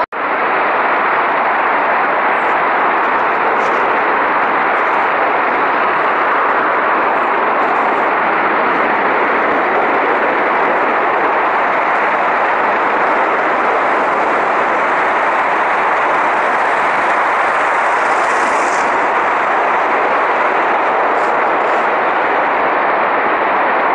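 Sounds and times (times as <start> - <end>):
gas jet fire rushing: 0.2 - 23.9.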